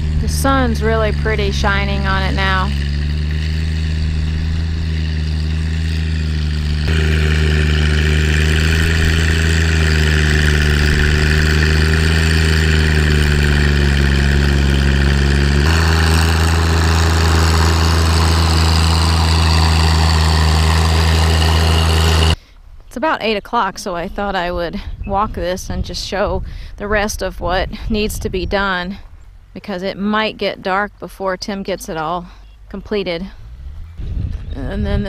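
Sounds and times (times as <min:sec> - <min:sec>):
tractor diesel engine laboring: 0:00.0 - 0:35.0.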